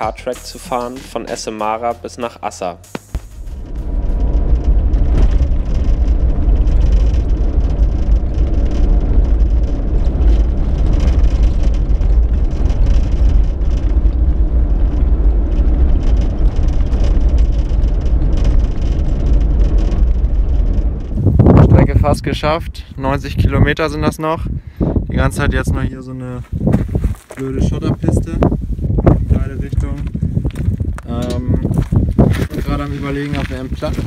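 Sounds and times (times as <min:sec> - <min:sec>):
vehicle rumbling on dirt track: 0:02.8 - 0:34.0.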